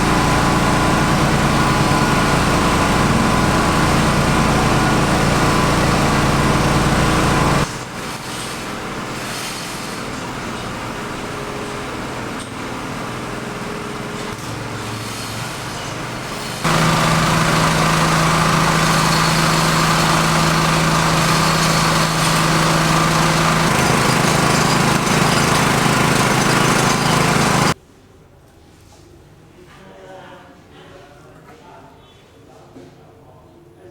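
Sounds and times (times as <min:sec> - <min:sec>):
small engine running: 0:00.0 - 0:27.8.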